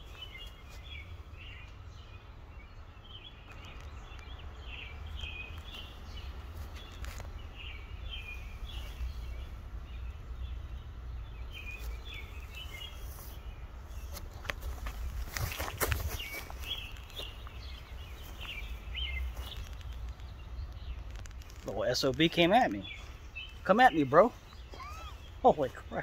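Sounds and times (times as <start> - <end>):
steady low rumble: 0.0 - 23.7
songbirds chirping: 0.0 - 26.0.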